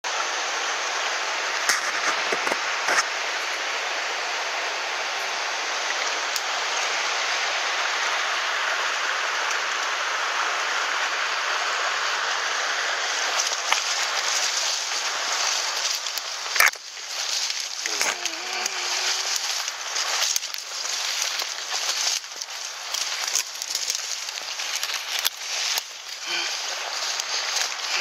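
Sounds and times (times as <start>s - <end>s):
stream running over rocks: 0.1s - 28.0s.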